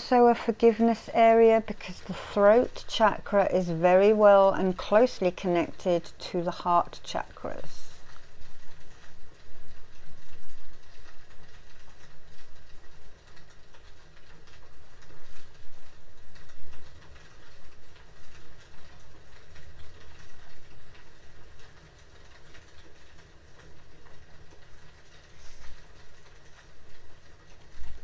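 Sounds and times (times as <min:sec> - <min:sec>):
heavy rain pattering: 0:00.0 - 0:28.0.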